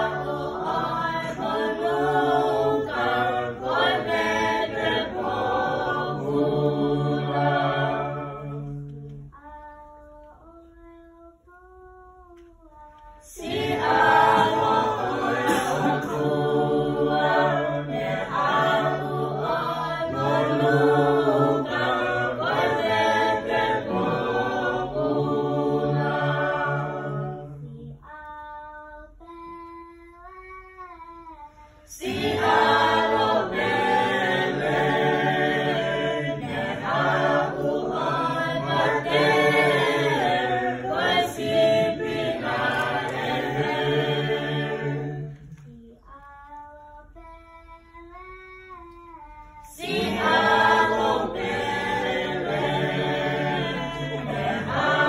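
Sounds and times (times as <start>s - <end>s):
choir singing a cappella: 0.0s - 9.6s, 12.5s - 28.3s, 31.7s - 47.1s, 49.6s - 55.0s.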